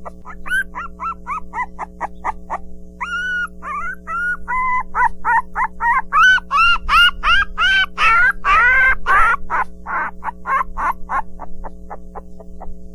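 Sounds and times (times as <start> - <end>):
puppies crying: 0.0 - 12.7.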